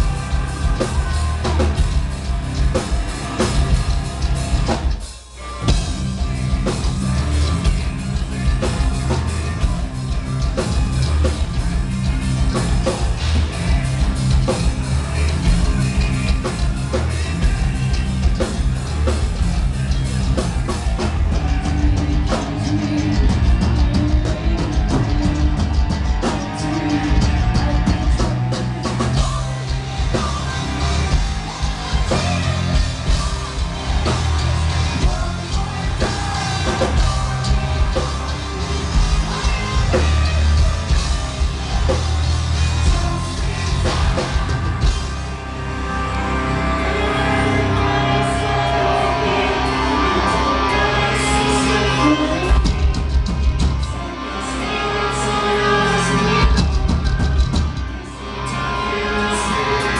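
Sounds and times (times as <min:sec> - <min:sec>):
drumming: 0:00.0 - 0:45.3, 0:47.7 - 0:54.0, 0:55.7 - 0:58.0
metal band playing live: 0:00.0 - 0:59.9.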